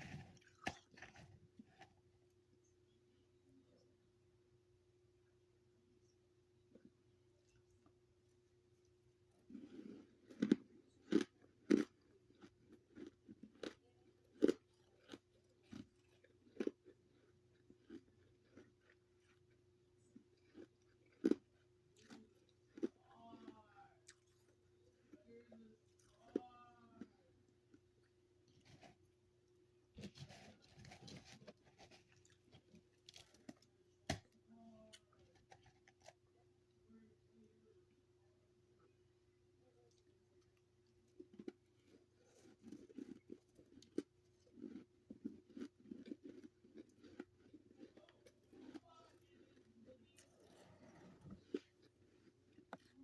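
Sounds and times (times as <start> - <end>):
crunchy chewing of frost: 0.0 - 2.3, 6.0 - 36.5, 39.6 - 53.0.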